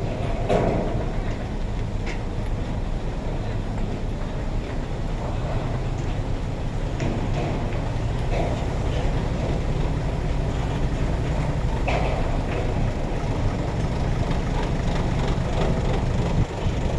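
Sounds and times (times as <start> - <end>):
truck engine rumbling: 0.0 - 16.9.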